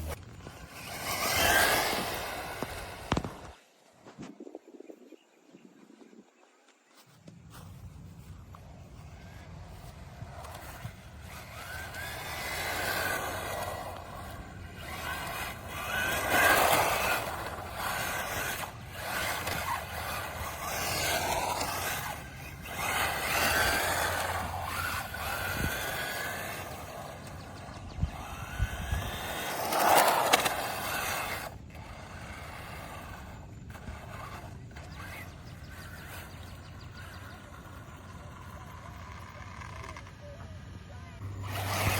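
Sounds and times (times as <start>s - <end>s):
rc car motor whining: 0.0s - 4.1s, 7.0s - 41.9s
tyres scraping over ground: 0.0s - 4.4s, 6.7s - 41.9s.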